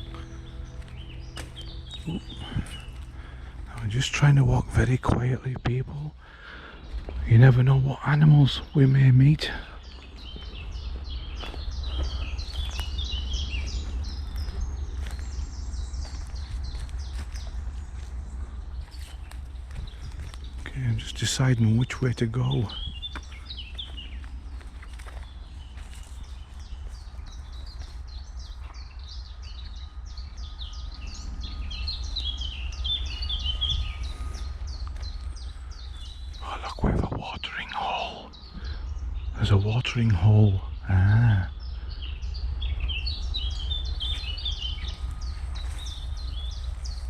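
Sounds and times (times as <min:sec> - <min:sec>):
songbirds chirping: 0:00.0 - 0:47.0
steady low rumble: 0:00.0 - 0:47.0.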